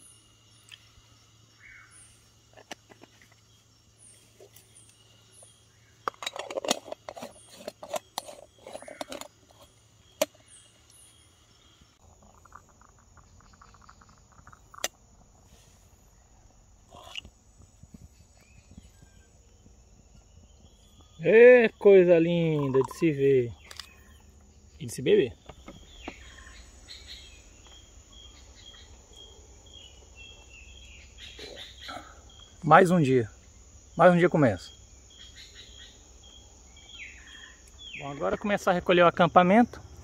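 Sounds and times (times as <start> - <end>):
insects and tree frogs calling: 0.0 - 40.0.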